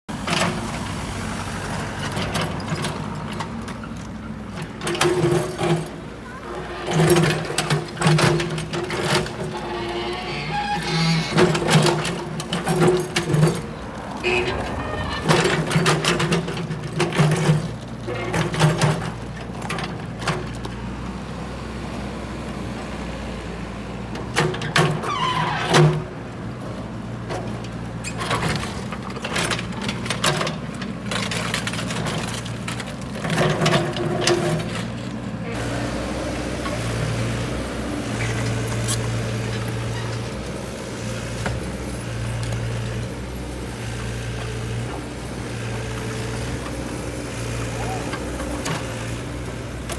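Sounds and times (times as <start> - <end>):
excavator diesel engine running: 0.1 - 24.3, 32.8 - 49.9.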